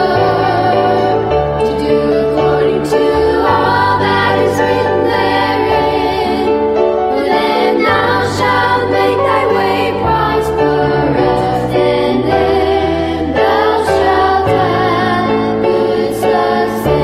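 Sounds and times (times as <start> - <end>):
choir singing: 0.0 - 17.0
sustained accompaniment: 0.0 - 17.0.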